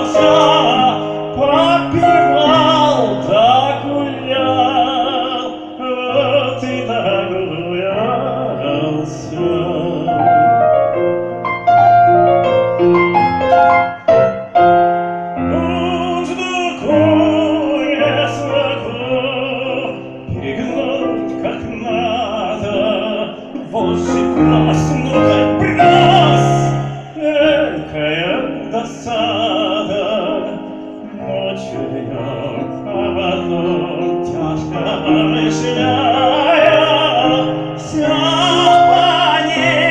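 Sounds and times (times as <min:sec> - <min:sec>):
person singing with vibrato: 0:00.0 - 0:11.4, 0:15.2 - 0:39.9
piano: 0:00.0 - 0:39.9.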